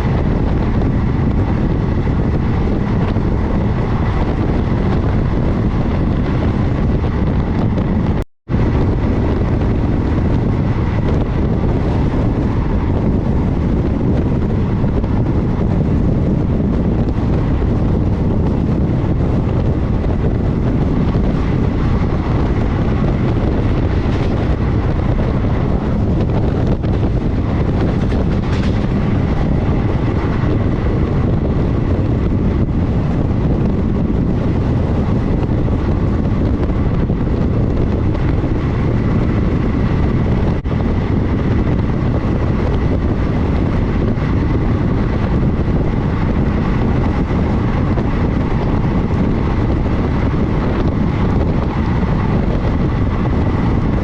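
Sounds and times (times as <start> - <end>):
wind on microphone: 0.0 - 54.0
train wheels rolling on rails: 8.6 - 54.0.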